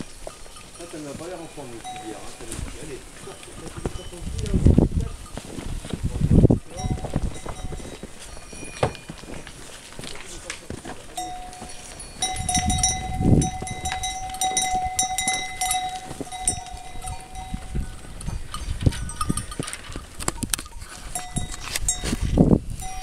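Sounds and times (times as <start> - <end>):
animal bell ringing: 0.0 - 5.6, 6.5 - 10.4, 11.0 - 23.0
goats moving in snow: 0.0 - 23.0.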